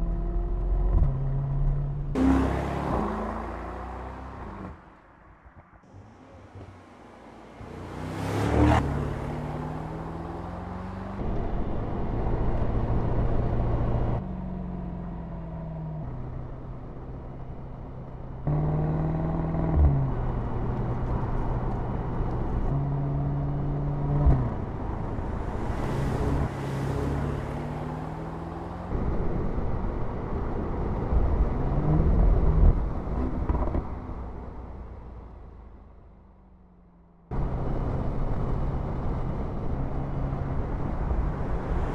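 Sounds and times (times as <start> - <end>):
car engine accelerating: 0.0 - 4.8, 5.8 - 41.9.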